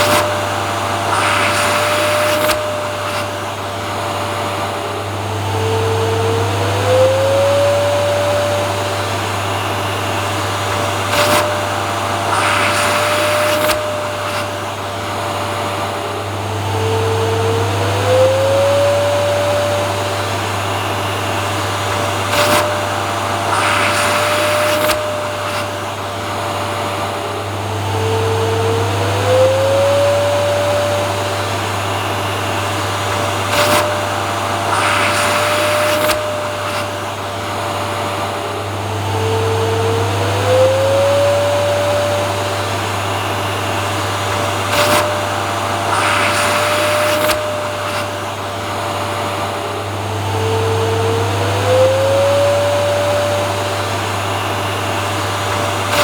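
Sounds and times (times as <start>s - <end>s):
vacuum cleaner motor whining: 0.0s - 56.0s.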